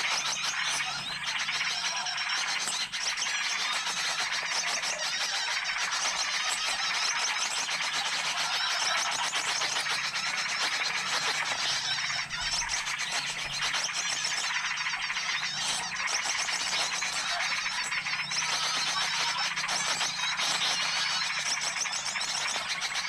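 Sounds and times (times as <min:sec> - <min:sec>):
small birds chirping chorus: 0:00.0 - 0:23.0.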